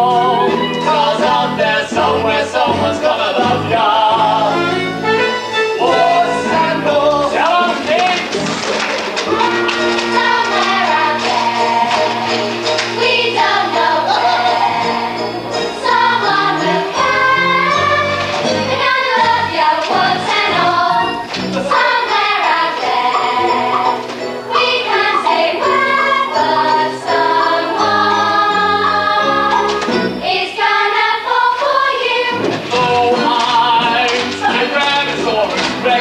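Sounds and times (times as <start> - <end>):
cast singing together: 0.0 - 36.0.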